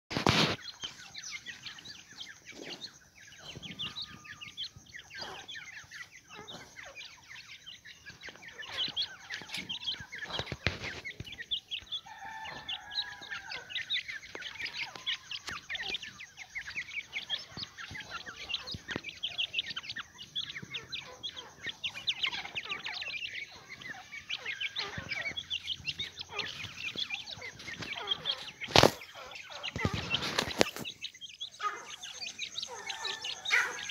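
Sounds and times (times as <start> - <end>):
quail calling: 0.2 - 33.9.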